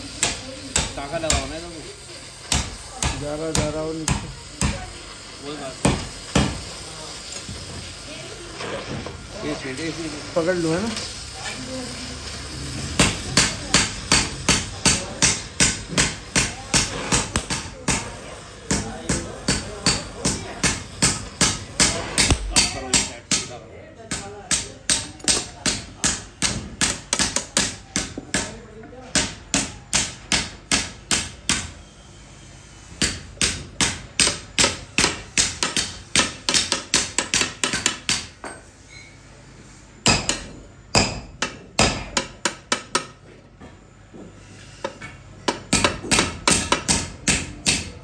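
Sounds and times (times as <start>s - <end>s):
hammer striking hot steel: 0.0s - 8.0s, 12.2s - 31.8s, 32.9s - 38.7s, 40.0s - 43.2s, 44.8s - 48.0s.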